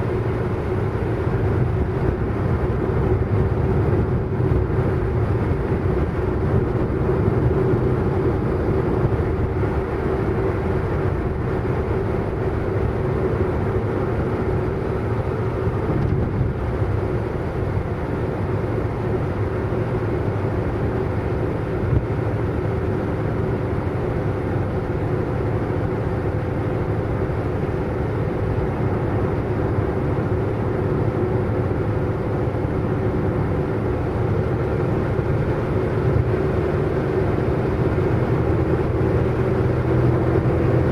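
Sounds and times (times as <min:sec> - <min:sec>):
car engine drone: 0:00.0 - 0:40.9
tyre and road noise: 0:00.0 - 0:40.9.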